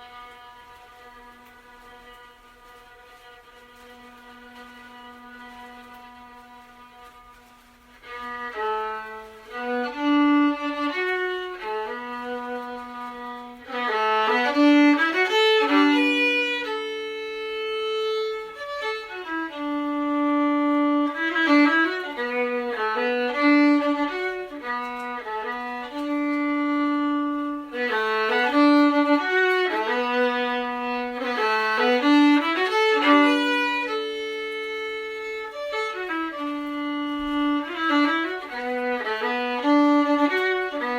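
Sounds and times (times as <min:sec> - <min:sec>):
solo fiddle folk melody: 0:00.0 - 0:40.9.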